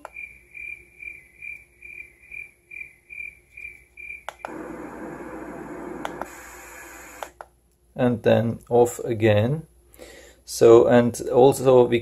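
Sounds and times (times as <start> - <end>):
steady noise hiss: 0.0 - 12.0.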